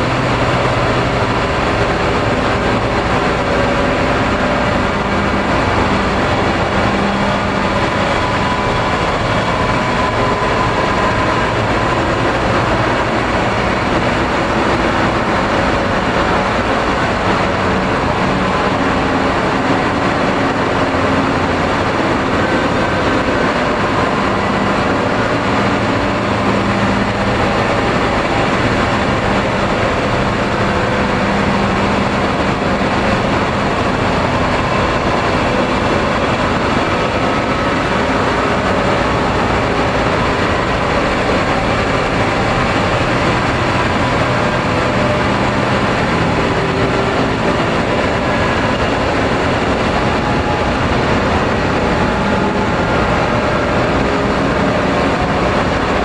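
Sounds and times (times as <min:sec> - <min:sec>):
rumbling noise music: 0:00.0 - 0:56.0.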